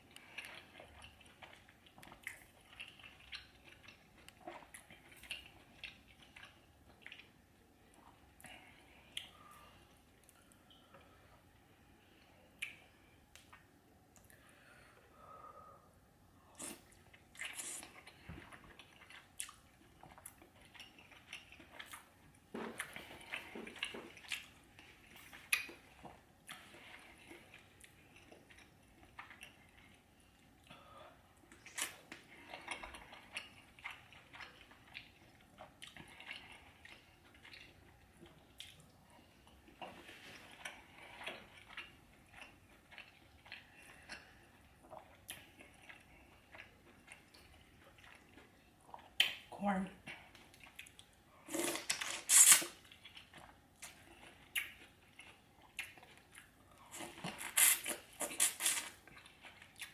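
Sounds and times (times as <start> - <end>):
wet chewing and smacking: 0.0 - 11.2, 12.5 - 14.5, 16.6 - 49.5, 50.2 - 59.9.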